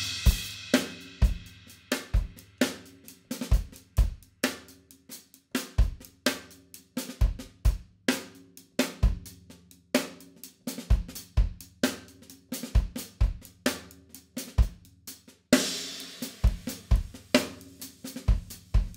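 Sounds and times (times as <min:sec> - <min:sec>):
drum kit groove: 0:00.0 - 0:18.9.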